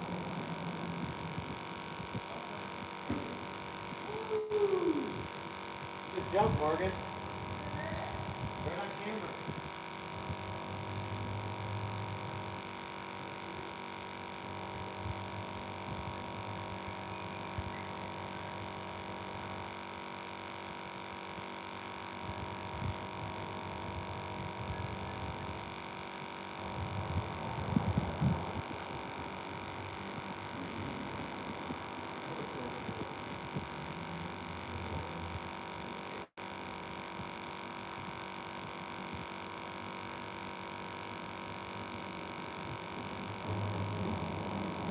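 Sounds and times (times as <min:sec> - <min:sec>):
steady hum of held tones: 0:00.0 - 0:44.9.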